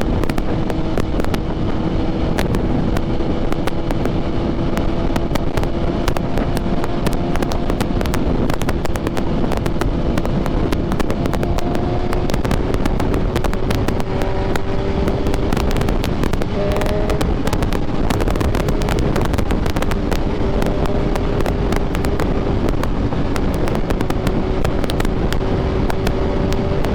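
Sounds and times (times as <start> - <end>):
motorcycle engine cruising: 0.0 - 26.9
wind buffeting the microphone: 0.0 - 26.9
wind rush: 0.0 - 26.9.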